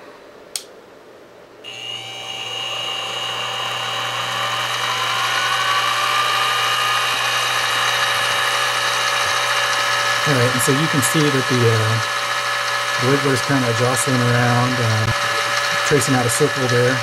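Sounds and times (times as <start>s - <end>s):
mill motor and gear whine: 1.6s - 17.0s.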